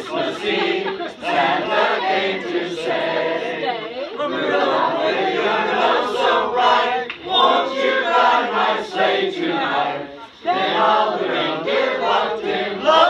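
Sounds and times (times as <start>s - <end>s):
group singing a carol: 0.0s - 13.0s.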